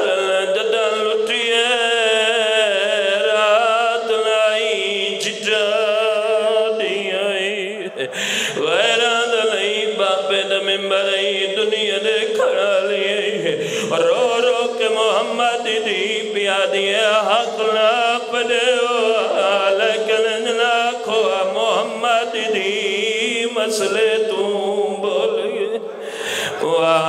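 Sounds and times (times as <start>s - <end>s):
man chanting through loudspeakers: 0.0s - 27.0s.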